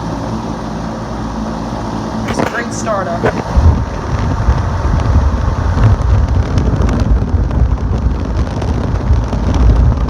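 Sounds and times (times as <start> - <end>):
fan airflow buffeting microphone: 0.0 - 10.0.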